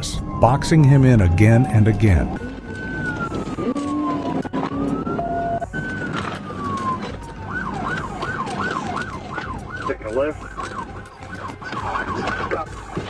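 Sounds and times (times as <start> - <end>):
car engine and road noise: 0.0 - 13.0
police siren wailing and yelping: 0.0 - 13.0.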